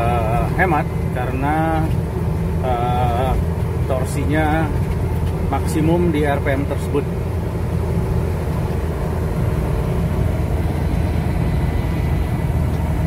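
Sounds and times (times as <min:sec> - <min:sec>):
car engine cruising: 0:00.0 - 0:13.0
road noise: 0:00.0 - 0:13.0.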